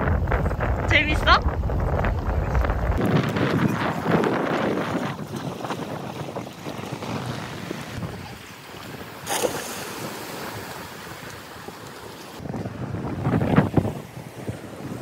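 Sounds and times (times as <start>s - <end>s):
wind on microphone: 0.0s - 11.8s, 12.4s - 15.0s.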